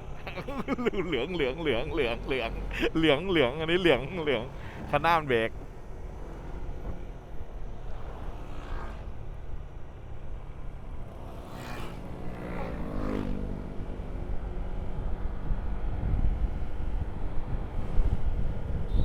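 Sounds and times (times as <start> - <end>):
road rumble: 0.0 - 19.0
wind: 0.0 - 19.0.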